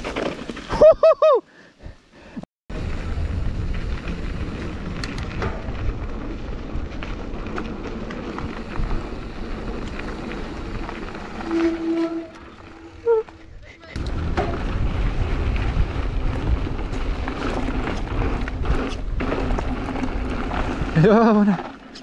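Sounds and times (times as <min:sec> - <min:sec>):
bike tyres rumbling on dirt: 0:00.0 - 0:00.9, 0:02.7 - 0:22.0.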